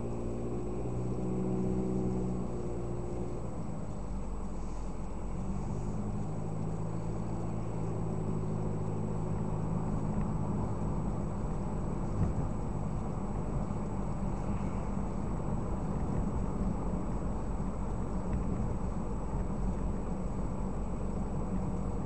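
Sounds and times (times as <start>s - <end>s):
car engine and road drone: 0.0s - 22.0s.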